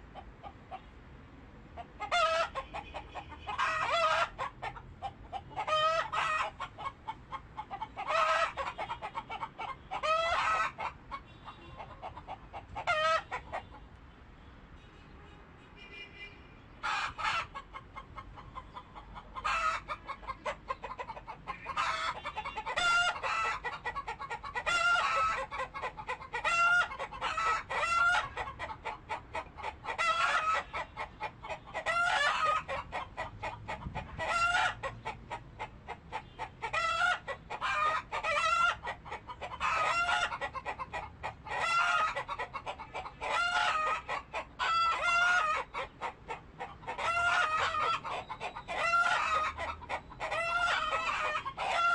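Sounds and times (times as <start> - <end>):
chickens clucking: 0.0 - 1.0, 1.8 - 14.0, 16.8 - 51.9.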